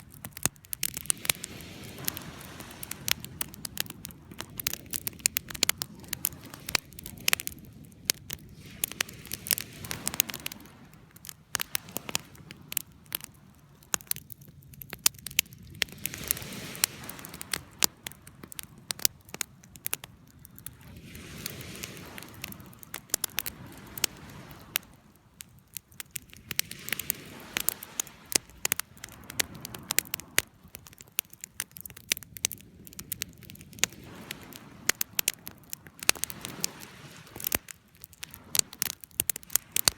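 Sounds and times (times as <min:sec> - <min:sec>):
campfire crackling and popping: 0:00.0 - 0:39.9
hiss of flames: 0:00.0 - 0:39.9.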